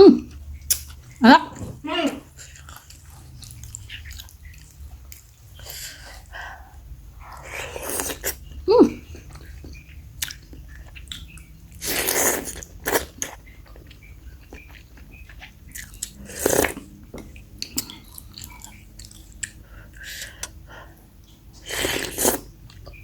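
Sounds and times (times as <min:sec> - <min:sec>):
person chewing with mouth clicks: 0:00.2 - 0:01.8, 0:02.4 - 0:06.3, 0:07.2 - 0:23.0.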